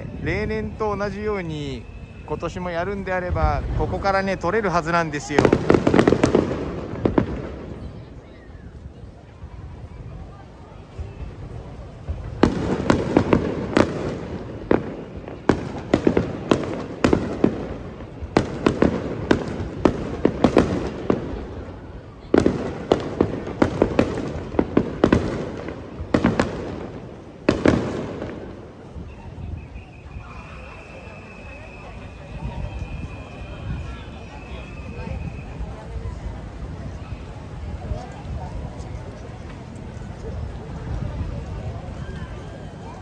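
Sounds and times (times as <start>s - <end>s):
fireworks bursting: 0.0s - 8.9s, 9.7s - 43.0s.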